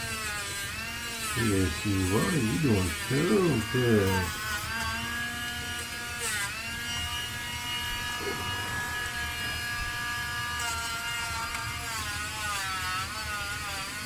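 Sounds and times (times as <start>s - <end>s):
pet nail grinder whining: 0.0s - 14.0s.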